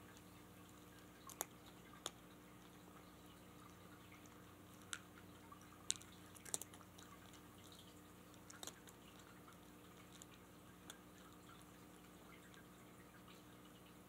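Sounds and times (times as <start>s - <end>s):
cat chewing food: 0.0s - 13.8s.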